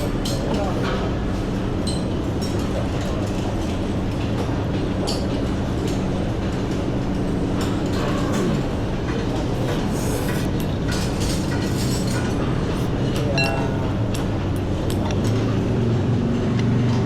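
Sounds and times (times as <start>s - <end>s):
road and wind noise: 0.9s - 17.0s.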